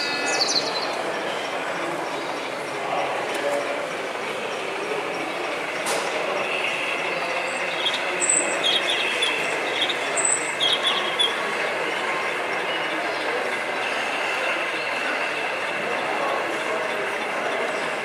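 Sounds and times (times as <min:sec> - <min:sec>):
hall hubbub: 0:00.0 - 0:18.0
model train running: 0:00.0 - 0:18.0.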